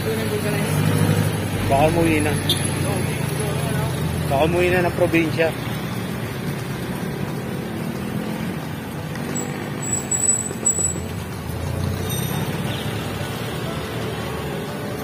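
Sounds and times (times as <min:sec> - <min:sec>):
road and wind noise: 0:00.0 - 0:15.0
street traffic: 0:00.0 - 0:15.0.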